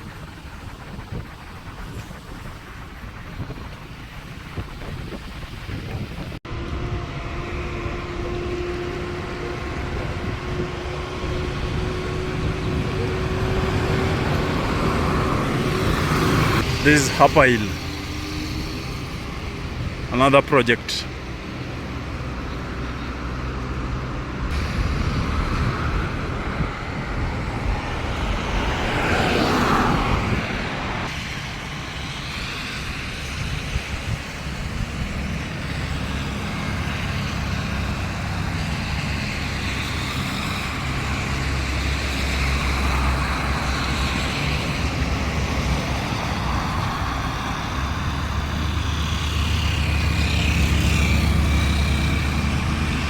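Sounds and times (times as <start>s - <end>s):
road traffic rumble: 0.0s - 53.0s
vehicle passing close: 6.4s - 31.4s, 34.4s - 53.0s.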